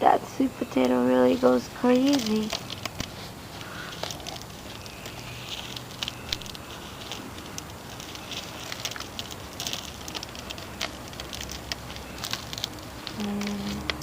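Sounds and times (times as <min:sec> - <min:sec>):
hands digging through dry soil: 0:00.8 - 0:14.0.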